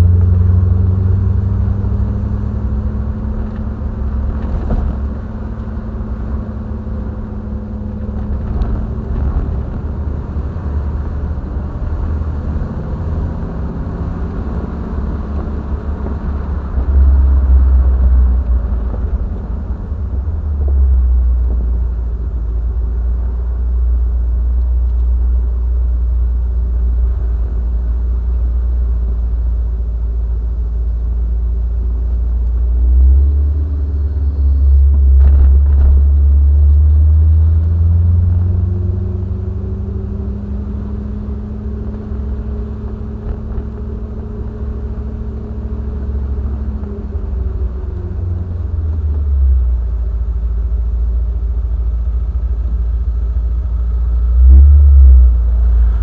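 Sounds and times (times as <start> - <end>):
car engine rumbling: 0.0 - 56.0.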